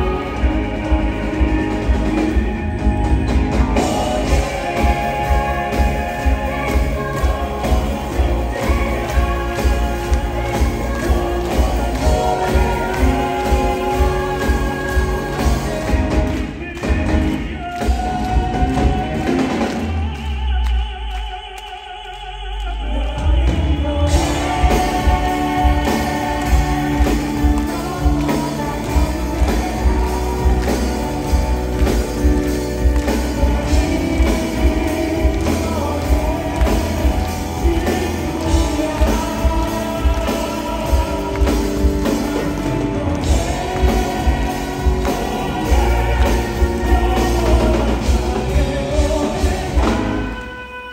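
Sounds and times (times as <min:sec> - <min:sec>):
live pop band with drums: 0:00.0 - 0:50.9
male vocal group singing: 0:00.0 - 0:50.9.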